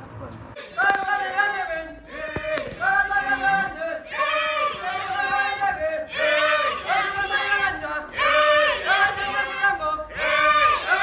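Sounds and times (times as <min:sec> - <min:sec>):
group chanting in unison: 0:00.6 - 0:11.0.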